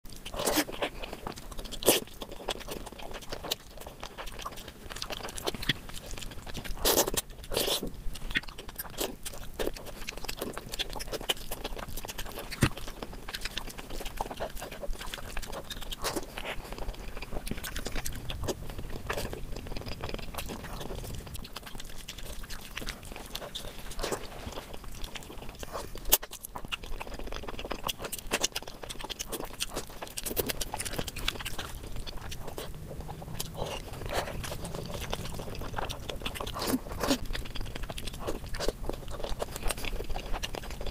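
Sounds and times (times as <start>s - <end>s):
chewing and wet mouth sounds: 0.1s - 40.9s
sharp clicks and crunches: 0.1s - 40.9s.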